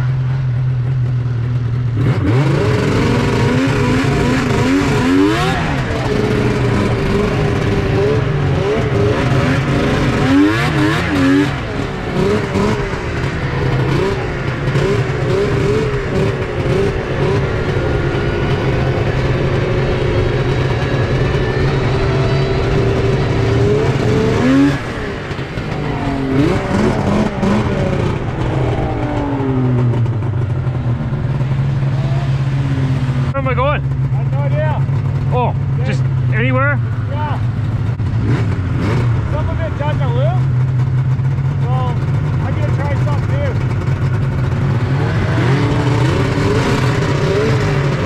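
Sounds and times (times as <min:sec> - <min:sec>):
snowmobile engine revving: 0:00.0 - 0:48.0.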